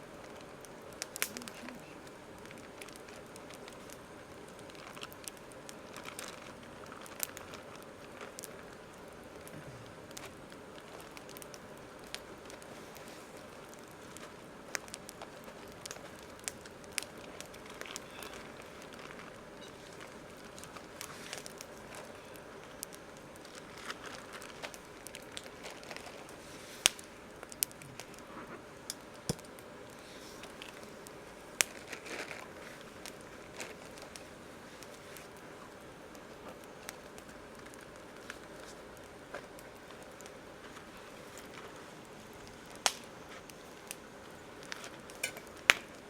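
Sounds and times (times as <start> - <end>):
campfire crackling and popping: 0.0 - 46.0
low steady hiss: 0.0 - 46.0.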